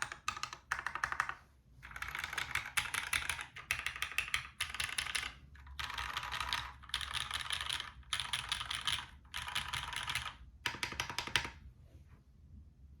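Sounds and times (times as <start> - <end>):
mechanical keyboard typing: 0.0 - 11.6.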